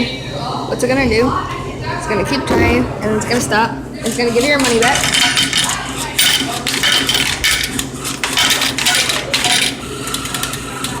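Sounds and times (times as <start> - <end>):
vending machine hum: 0.0 - 11.0.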